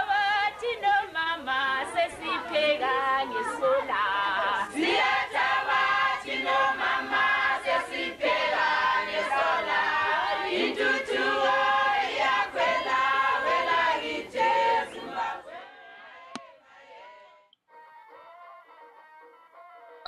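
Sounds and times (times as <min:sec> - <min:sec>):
crowd singing in chorus: 0:00.0 - 0:17.4.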